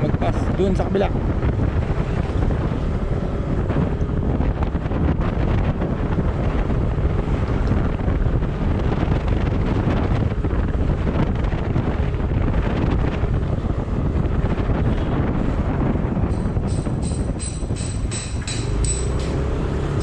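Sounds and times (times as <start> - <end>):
low vehicle rumble: 0.0 - 20.0
wind buffeting microphone: 0.0 - 20.0.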